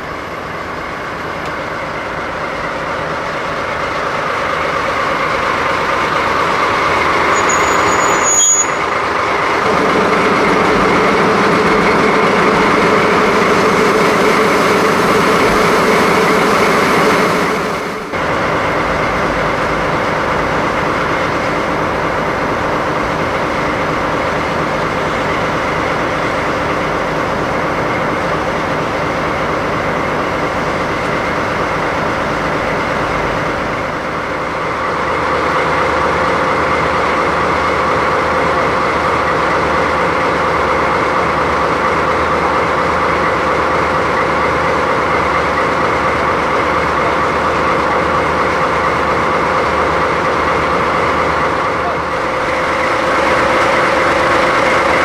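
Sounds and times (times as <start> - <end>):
diesel locomotive engines idling: 0.0 - 55.0.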